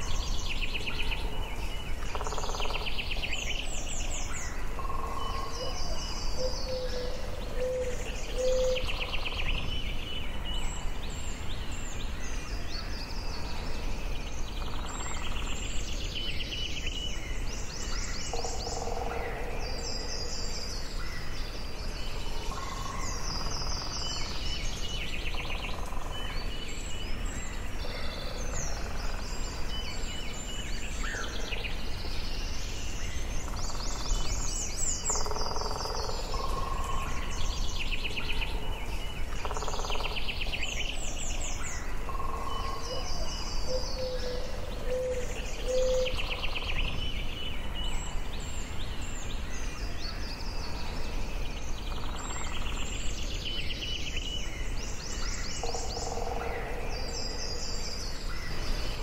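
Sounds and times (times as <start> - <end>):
birds singing and calling: 0.0 - 59.0.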